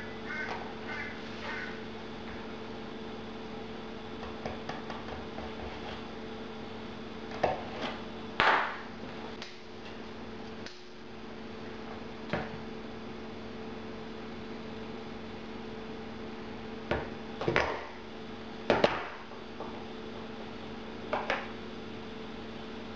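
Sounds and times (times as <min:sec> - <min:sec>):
electrical hum: 0:00.0 - 0:22.9.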